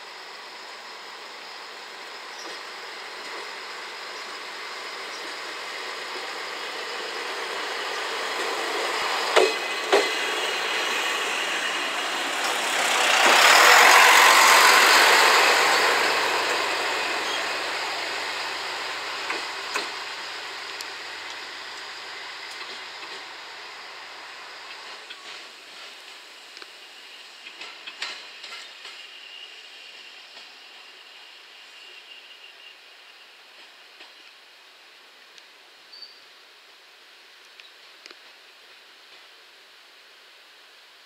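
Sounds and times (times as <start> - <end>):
diesel railcar passing: 0.0 - 40.8.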